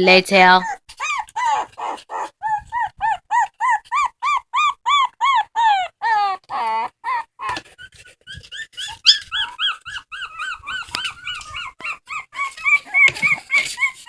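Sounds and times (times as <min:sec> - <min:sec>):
dog whining: 0:00.6 - 0:14.0.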